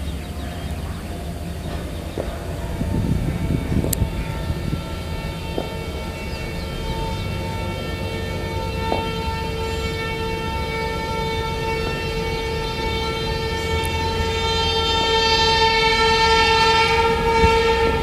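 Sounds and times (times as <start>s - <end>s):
locomotive horn blast: 0.0s - 18.0s
low rumble of train: 0.0s - 18.0s.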